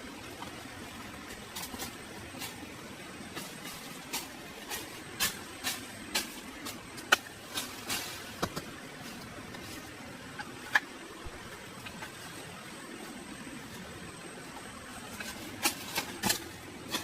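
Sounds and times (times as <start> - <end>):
steady low background noise: 0.0 - 17.0.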